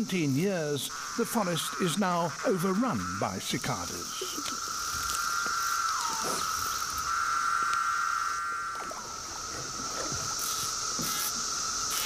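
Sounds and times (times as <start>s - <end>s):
cicadas buzzing: 0.0s - 12.0s
high-pitched cicada hiss: 0.0s - 12.0s.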